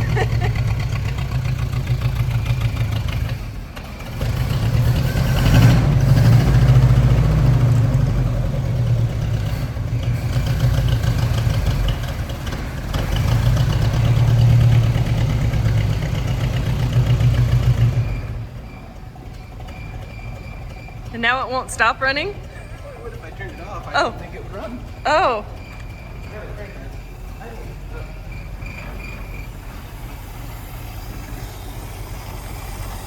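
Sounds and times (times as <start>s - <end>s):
gasoline engine running: 0.0s - 33.0s.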